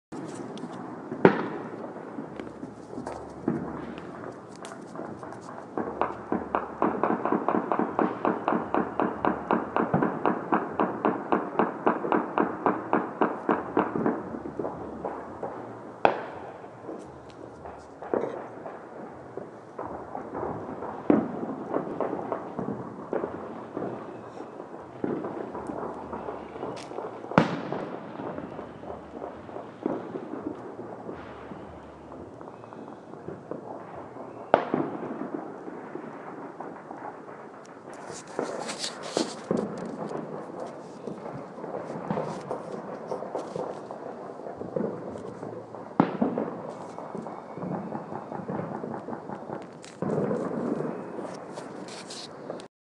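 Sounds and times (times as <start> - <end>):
firecrackers popping: 0.1 - 52.7
loud firework bangs: 0.1 - 52.7.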